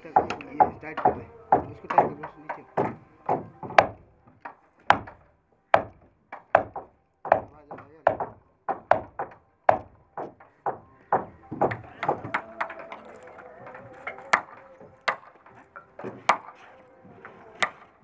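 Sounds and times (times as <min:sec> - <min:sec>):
hand hammer striking wood: 0:00.0 - 0:18.0.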